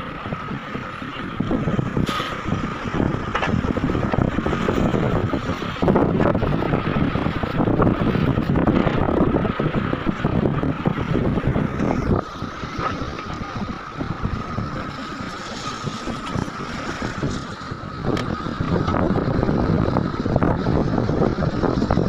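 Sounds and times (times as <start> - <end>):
heavy diesel machinery running: 0.0 - 22.0
wind buffeting microphone: 0.0 - 22.0.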